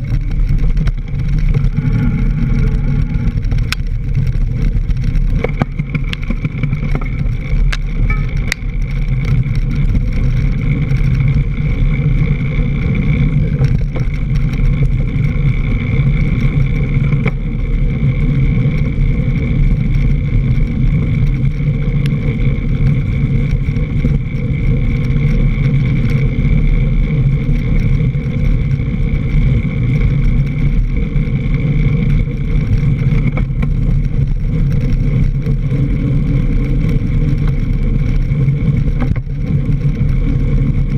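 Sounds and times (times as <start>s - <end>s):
bike tyre and wind rumble: 0.0s - 40.9s.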